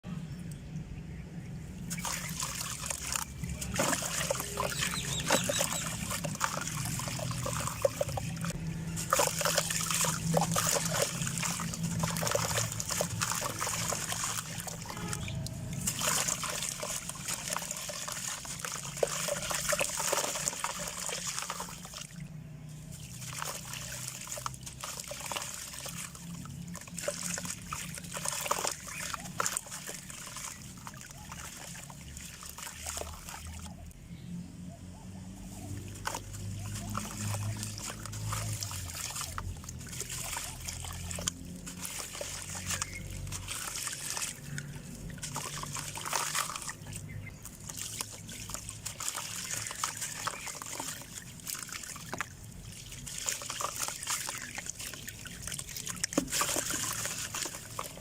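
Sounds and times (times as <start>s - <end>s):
dirt crumbling and fizzing in water: 1.8s - 33.9s, 35.5s - 58.0s.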